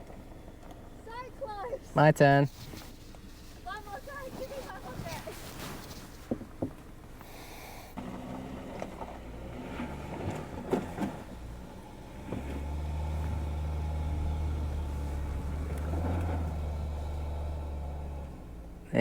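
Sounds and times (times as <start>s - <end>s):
engine working under load: 0.0s - 19.0s.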